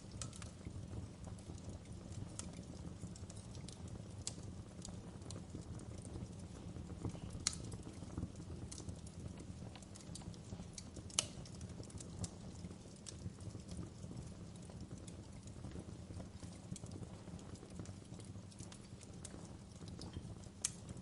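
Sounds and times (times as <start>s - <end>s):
campfire crackling and popping: 0.0s - 21.0s
low rumble of burning fire: 0.0s - 21.0s.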